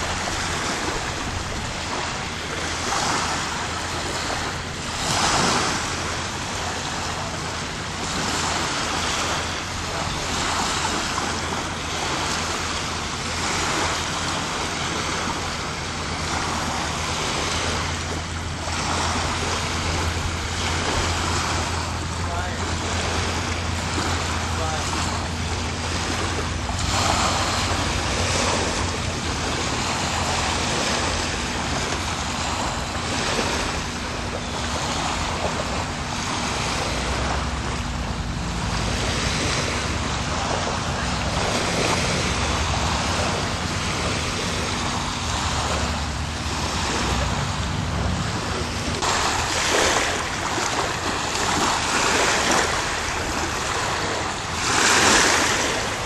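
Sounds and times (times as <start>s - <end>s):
small waves lapping at shore: 0.0s - 56.0s
steady low hum: 0.0s - 56.0s
wind rushing over microphone: 0.0s - 56.0s.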